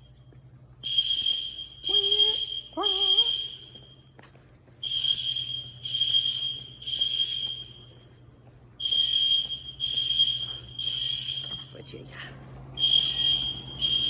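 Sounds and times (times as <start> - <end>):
fire alarm beeping: 0.0 - 4.2, 4.8 - 11.9, 12.8 - 14.0.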